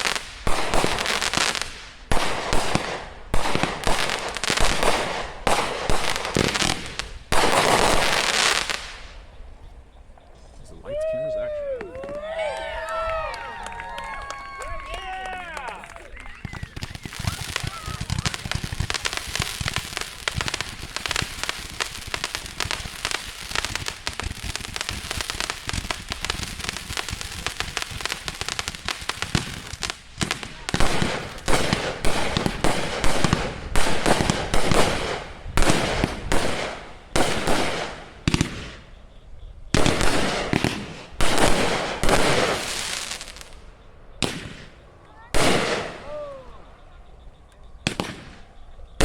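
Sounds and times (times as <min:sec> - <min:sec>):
fireworks popping and bursting: 0:00.0 - 0:10.8, 0:11.8 - 0:49.0.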